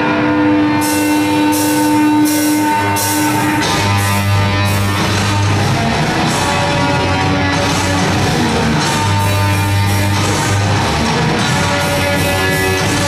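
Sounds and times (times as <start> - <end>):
cymbal crashes: 0.0 - 13.0
heavy metal band playing: 0.0 - 13.0
sustained bass and guitar notes: 0.0 - 13.0.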